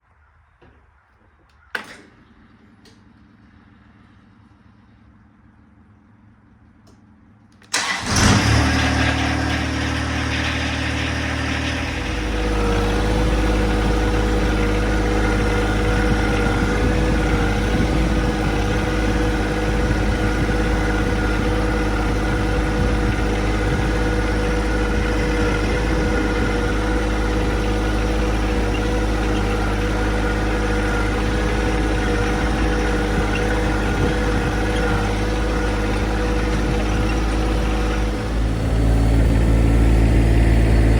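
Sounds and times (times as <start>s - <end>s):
tractor diesel engine running: 0.6s - 40.9s.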